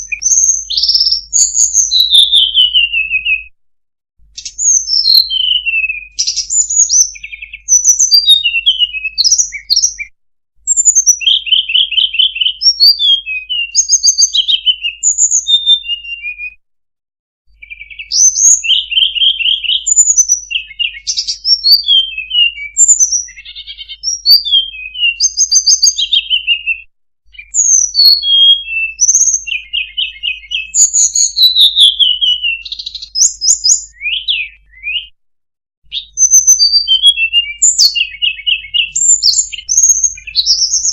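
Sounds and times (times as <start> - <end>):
songbird trills and whistles: 0.0 - 3.5, 4.3 - 16.6, 17.5 - 35.2, 35.9 - 40.9.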